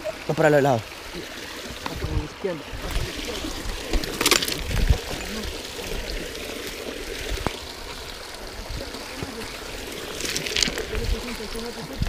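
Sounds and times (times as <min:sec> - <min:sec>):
water running through culvert: 0:00.0 - 0:12.0.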